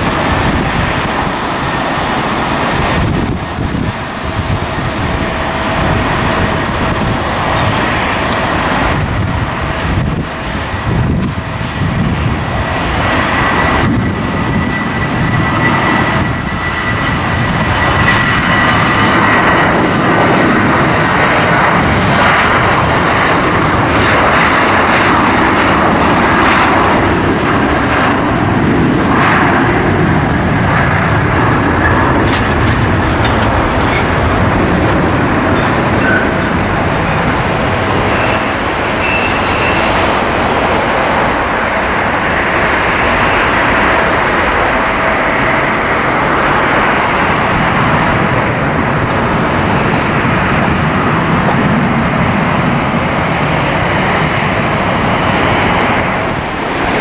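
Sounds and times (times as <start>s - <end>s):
airliner engines running: 0.0s - 57.0s
high engine whine: 0.0s - 57.0s
wind buffeting microphone: 0.0s - 57.0s.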